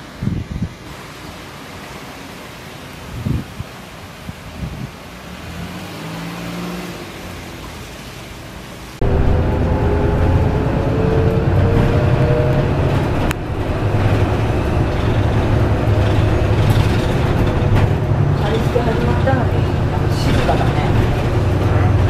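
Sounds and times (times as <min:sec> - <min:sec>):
bus engine drone with whine: 0:00.0 - 0:22.0
vehicle passing on street: 0:01.7 - 0:22.0.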